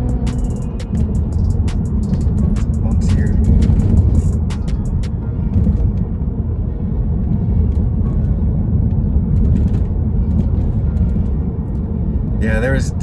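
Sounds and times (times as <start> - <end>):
tyres and engine rumbling: 0.0 - 13.0.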